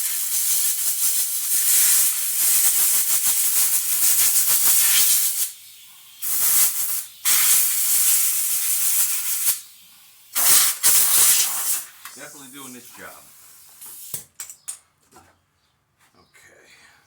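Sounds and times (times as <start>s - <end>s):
pressurized spray hissing: 0.0s - 14.2s.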